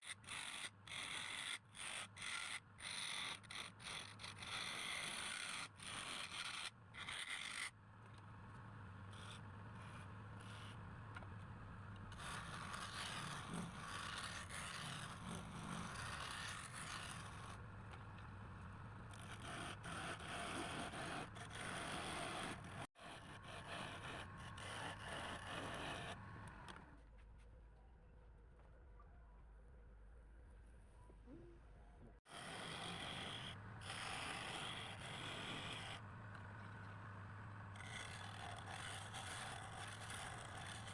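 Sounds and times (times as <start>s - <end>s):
tool scraping spinning wood: 0.0s - 8.3s, 9.0s - 26.8s, 32.3s - 40.9s.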